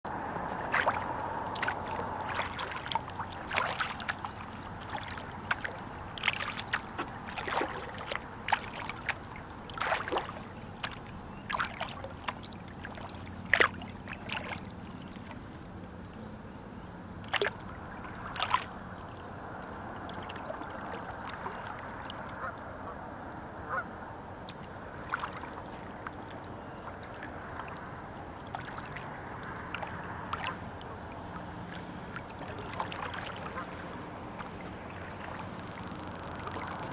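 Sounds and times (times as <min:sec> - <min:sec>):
kayak paddling in water: 0:00.1 - 0:36.9.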